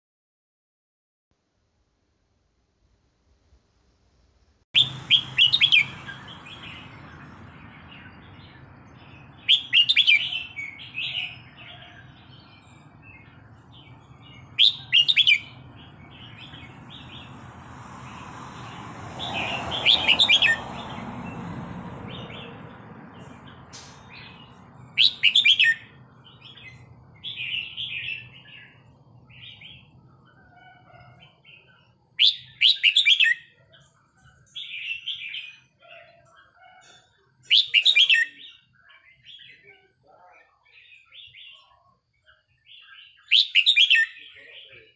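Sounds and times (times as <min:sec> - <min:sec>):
bird singing high phrases: 0:04.8 - 0:21.5, 0:22.1 - 0:44.9.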